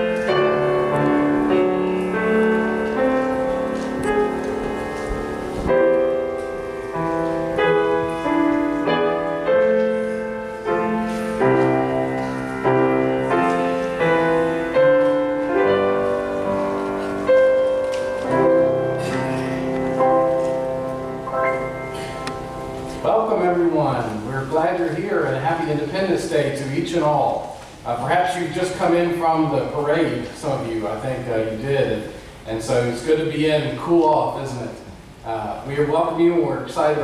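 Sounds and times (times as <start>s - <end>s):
slow chordal piano piece: 0.0s - 33.3s.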